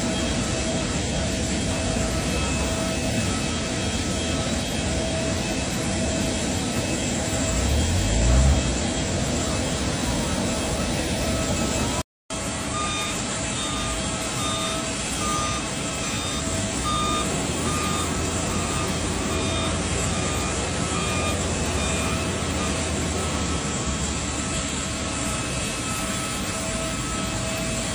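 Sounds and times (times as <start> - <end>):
engine running: 0.0 - 27.9
reversing alarm beeping: 0.0 - 27.9.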